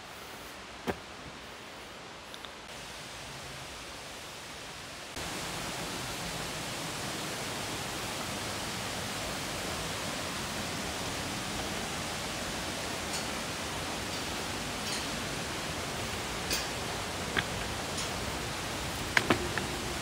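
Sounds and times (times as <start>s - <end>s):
waterfall rushing: 2.0s - 20.0s.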